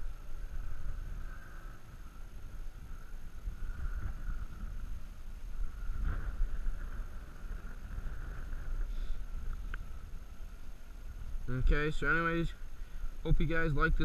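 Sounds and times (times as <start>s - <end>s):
airplane engine drone: 0.0s - 14.0s.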